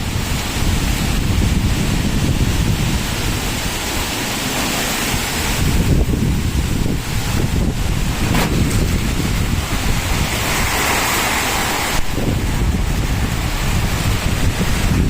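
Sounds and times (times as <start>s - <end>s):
palm fronds rustling: 0.0s - 15.0s
wind buffeting microphone: 0.0s - 15.0s.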